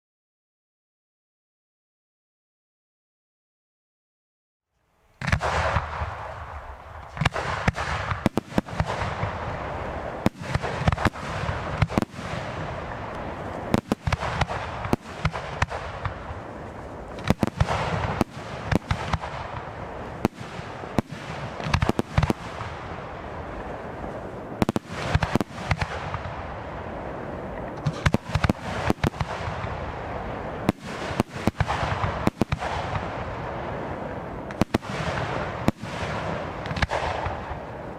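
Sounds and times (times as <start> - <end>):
constant noisy hiss: 4.7 - 37.9
fireworks bangs: 5.2 - 37.9.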